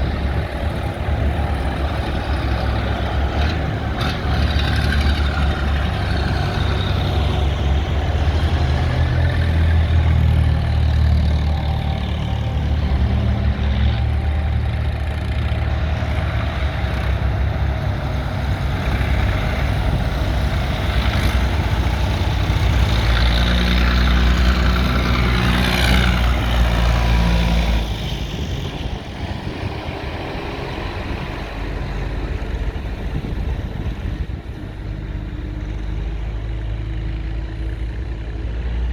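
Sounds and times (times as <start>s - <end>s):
tractor engines passing: 0.0s - 38.9s.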